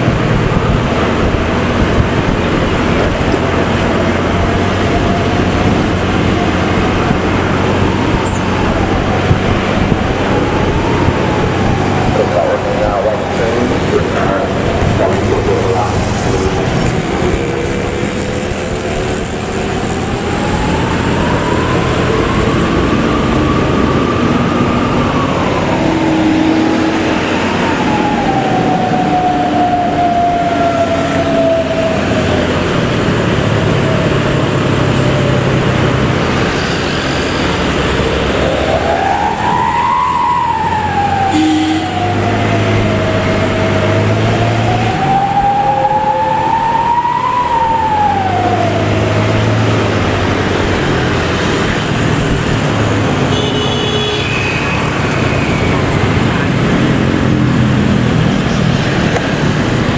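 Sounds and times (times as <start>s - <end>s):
howling bus exhaust: 0.0s - 53.3s.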